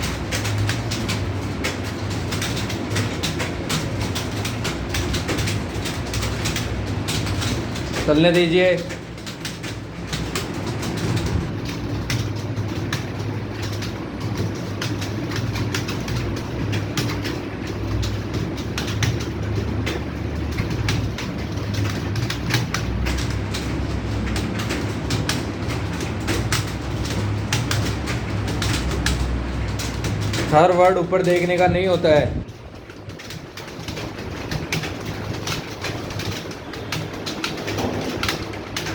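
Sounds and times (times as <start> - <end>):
computer keyboards clattering: 0.0 - 38.9.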